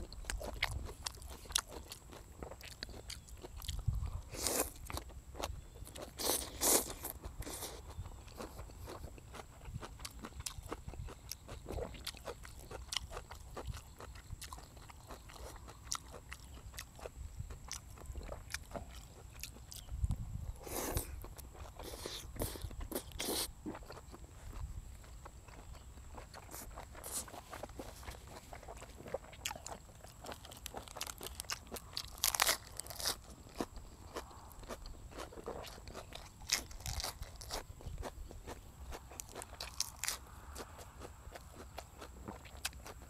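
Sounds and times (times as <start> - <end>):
crunching bites: 0.0 - 19.9, 20.6 - 43.0
man chewing and biting food: 0.0 - 43.0.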